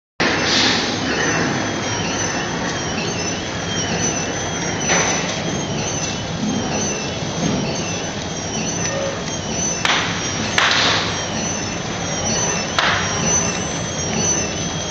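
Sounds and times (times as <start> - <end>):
packing machine clatter and hum: 0.2 - 14.9.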